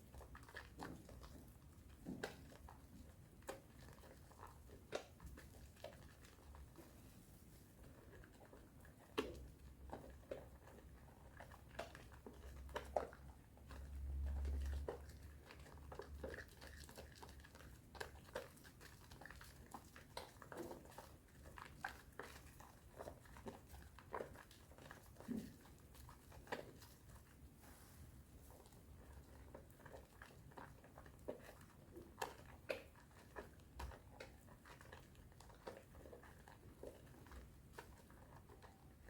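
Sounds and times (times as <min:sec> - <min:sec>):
hands lathering soap: 0:00.0 - 0:39.0.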